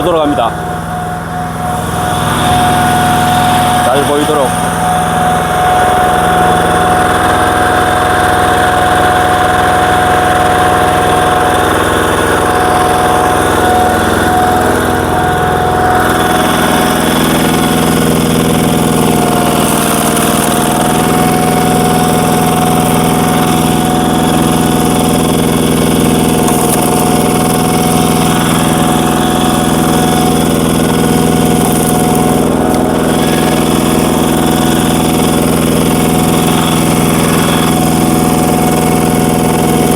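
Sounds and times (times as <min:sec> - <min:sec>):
diesel engine at full throttle: 0:00.0 - 0:39.9.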